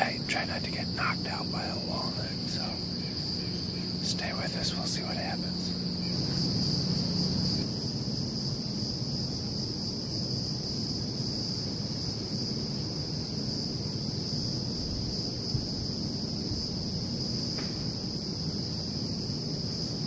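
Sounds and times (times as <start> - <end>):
insect chorus drone: 0.0 - 20.0
low background rumble: 0.0 - 20.0.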